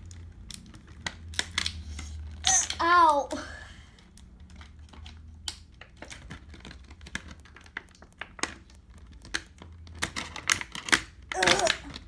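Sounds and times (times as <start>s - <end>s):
plastic clicks and crinkles: 0.0s - 12.0s.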